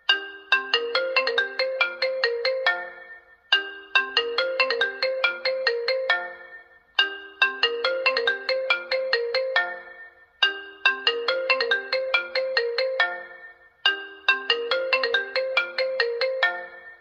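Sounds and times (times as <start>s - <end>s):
smartphone ringtone melody: 0.0s - 17.0s.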